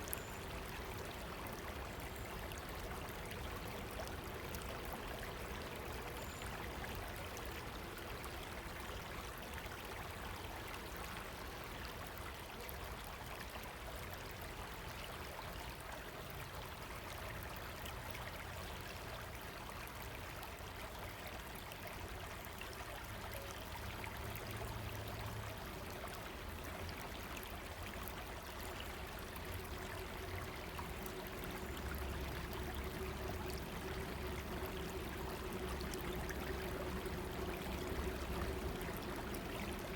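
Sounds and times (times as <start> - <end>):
river flowing water: 0.0 - 39.9.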